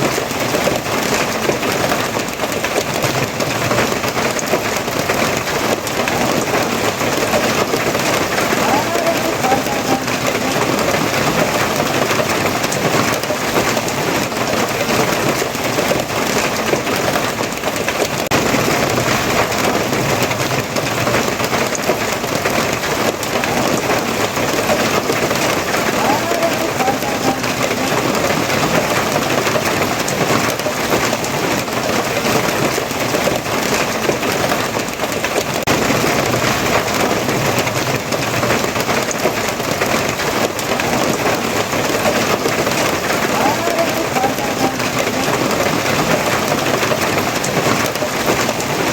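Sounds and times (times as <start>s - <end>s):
steady rain: 0.0s - 48.9s.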